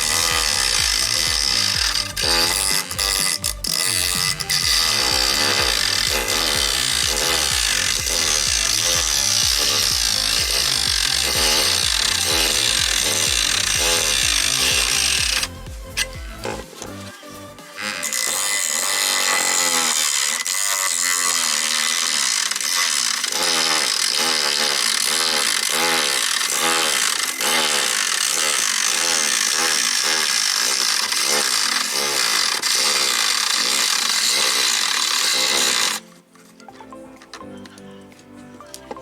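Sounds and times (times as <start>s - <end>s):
mini grinder grinding hiss: 0.0s - 36.1s.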